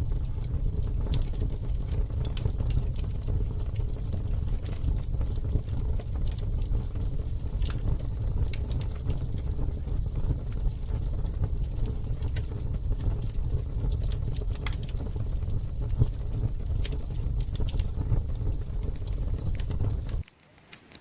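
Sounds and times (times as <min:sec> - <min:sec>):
campfire crackling: 0:00.0 - 0:20.3.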